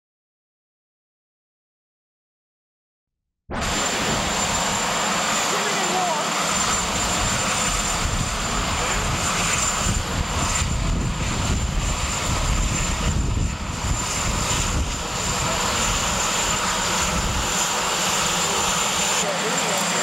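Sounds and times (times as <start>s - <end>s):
helicopter engines and rotors: 3.5s - 20.0s.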